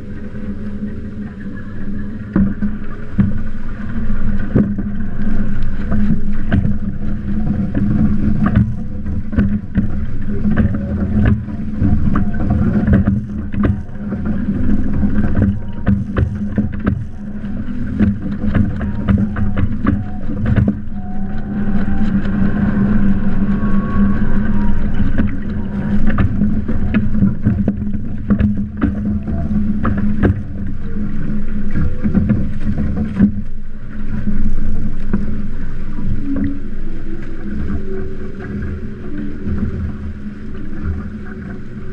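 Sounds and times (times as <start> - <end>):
water rushing along a hull: 0.0 - 41.9
wind buffeting microphone: 0.0 - 41.9.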